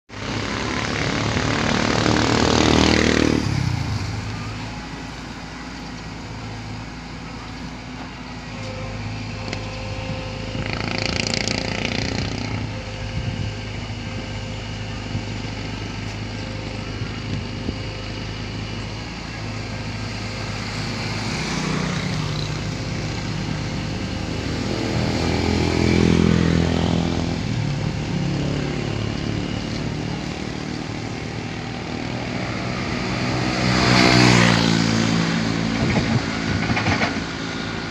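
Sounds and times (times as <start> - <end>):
motor engines running: 0.1 - 37.9.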